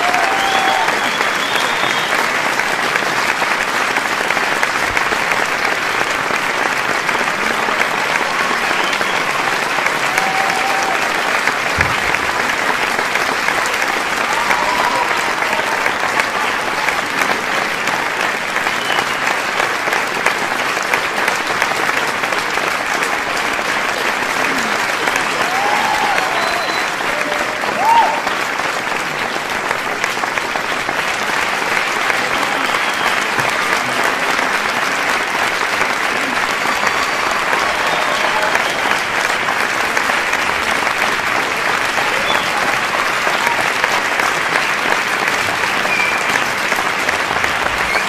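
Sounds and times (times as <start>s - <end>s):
crowd applauding: 0.0s - 48.0s
crowd shouting and cheering: 0.0s - 48.0s.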